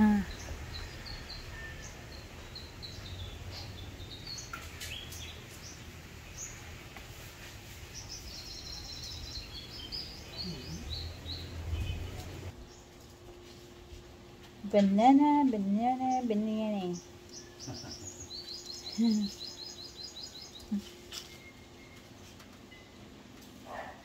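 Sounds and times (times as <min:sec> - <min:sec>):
small birds chirping: 0:00.0 - 0:13.2, 0:14.7 - 0:22.9.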